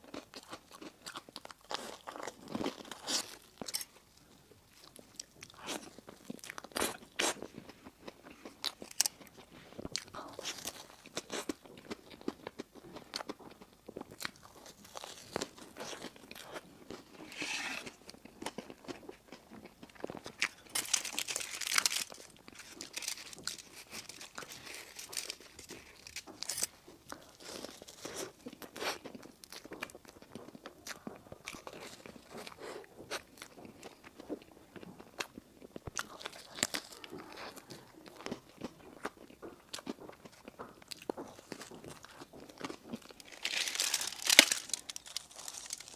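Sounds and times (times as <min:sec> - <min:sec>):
person crunching and chewing pastry: 0:00.0 - 0:45.9.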